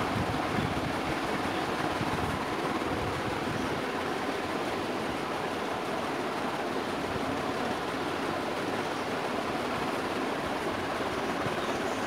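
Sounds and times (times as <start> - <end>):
ceiling fan whooshing: 0.0 - 12.0.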